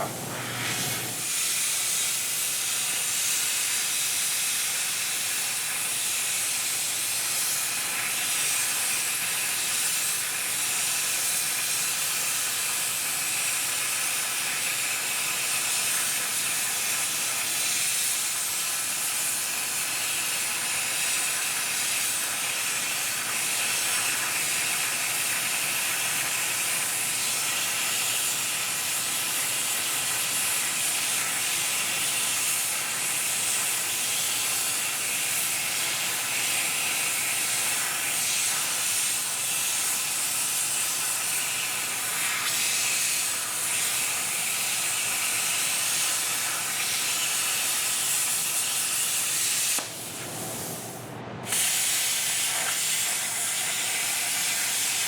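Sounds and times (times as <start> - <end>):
loud hissing noise: 0.0 - 55.0.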